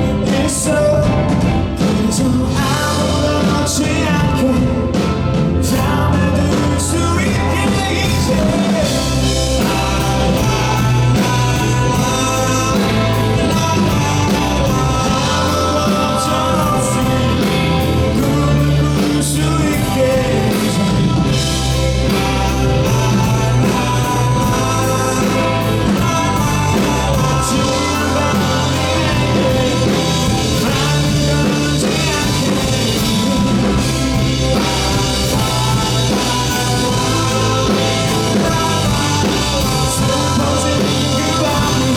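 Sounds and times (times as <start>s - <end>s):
live rock band playing: 0.0s - 41.9s
person singing: 0.0s - 41.9s.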